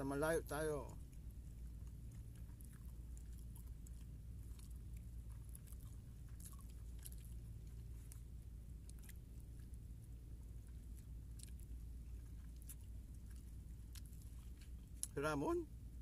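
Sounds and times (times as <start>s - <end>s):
low steady rumble: 0.0s - 16.0s
faint chewing: 0.5s - 16.0s.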